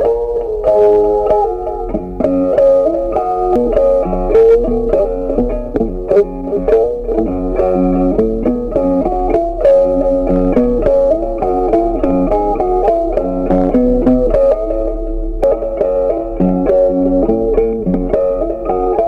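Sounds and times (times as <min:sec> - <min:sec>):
bass line with steady beat: 0:00.0 - 0:19.0
plucked guitar melody: 0:00.0 - 0:19.0.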